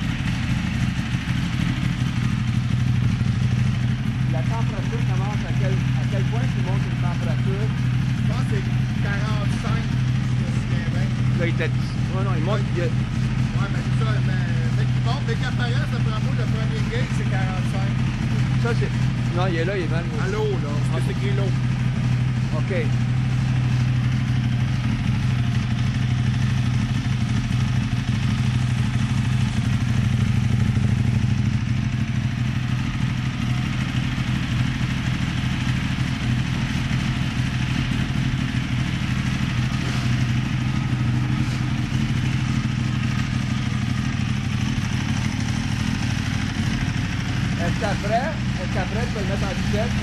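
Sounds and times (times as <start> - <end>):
motorcycle engine idling: 0.0 - 50.0.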